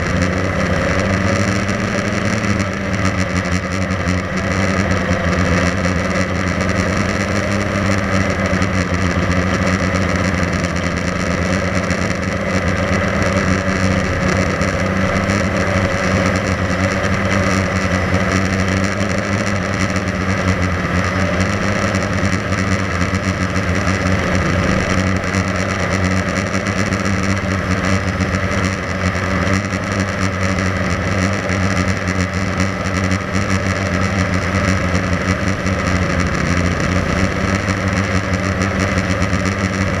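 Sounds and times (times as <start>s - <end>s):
quadcopter motors buzzing: 0.0s - 40.0s.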